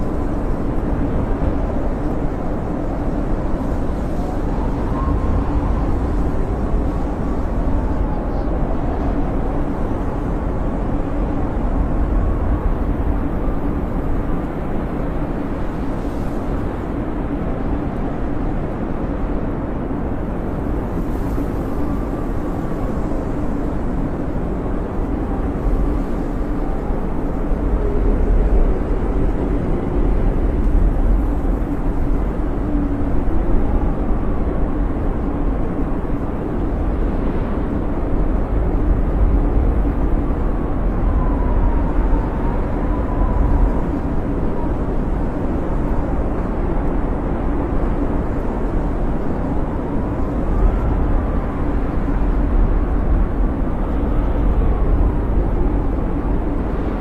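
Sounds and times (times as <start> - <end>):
faint whistling wind: 0.0 - 57.0
storm wind blowing: 0.0 - 57.0.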